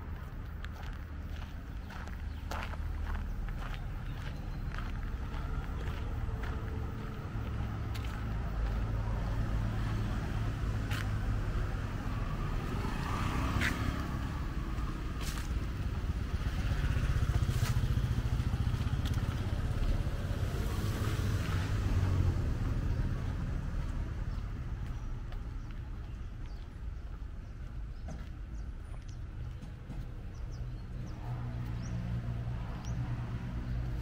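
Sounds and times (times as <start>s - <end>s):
low street rumble: 0.0s - 34.0s.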